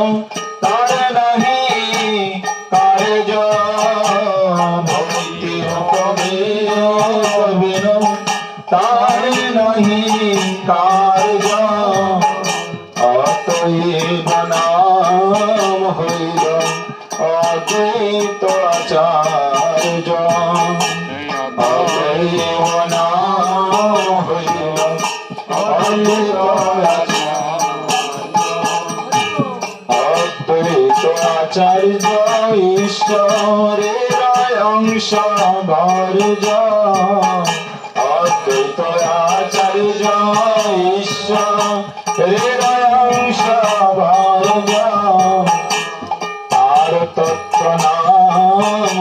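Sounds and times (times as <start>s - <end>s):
man singing devotional song: 0.0s - 49.0s
percussion clicking beat: 0.0s - 49.0s.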